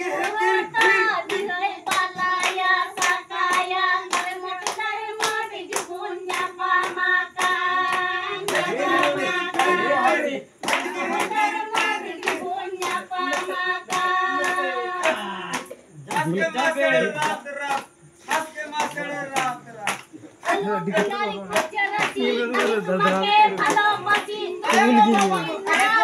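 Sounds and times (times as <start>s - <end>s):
women singing together: 0.0s - 19.8s, 20.4s - 26.0s
rhythmic hand clapping: 0.0s - 26.0s.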